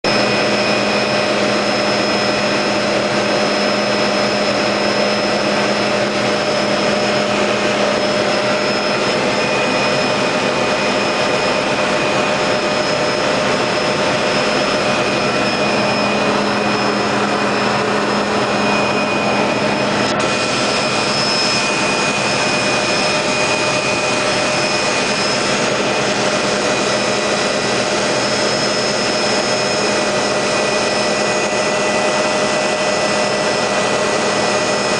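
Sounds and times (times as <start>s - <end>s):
helicopter engine and rotor: 0.0s - 34.9s
steady whine: 0.0s - 34.9s.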